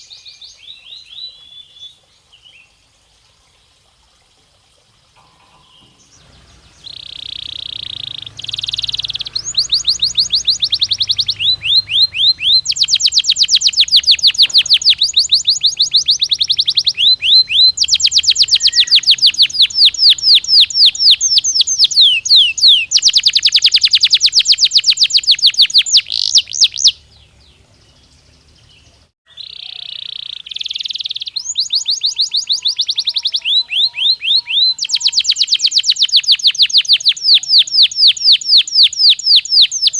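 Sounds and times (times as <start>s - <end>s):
canary singing trills: 5.2s - 39.9s.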